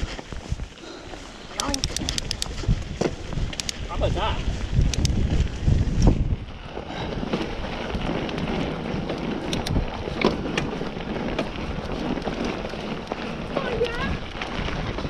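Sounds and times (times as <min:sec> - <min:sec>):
bike clicks and rattles: 0:00.0 - 0:15.0
bike tyres rolling on trail: 0:00.0 - 0:15.0
wind on microphone: 0:00.0 - 0:15.0.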